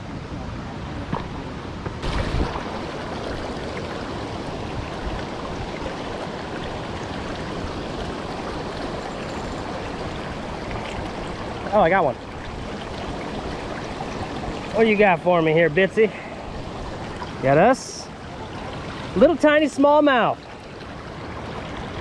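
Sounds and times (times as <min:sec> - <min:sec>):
water rushing over spillway: 0:02.0 - 0:22.0.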